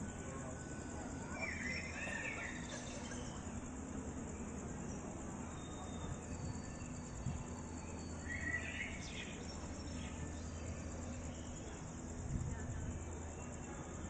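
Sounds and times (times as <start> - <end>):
constant hum: 0.0 - 14.0
faint distant voices: 0.0 - 14.0.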